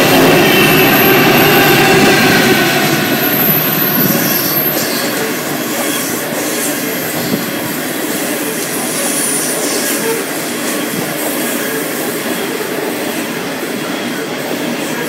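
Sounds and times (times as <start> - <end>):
diesel locomotives passing: 0.0 - 15.0
train wheels rumbling on rails: 0.0 - 15.0.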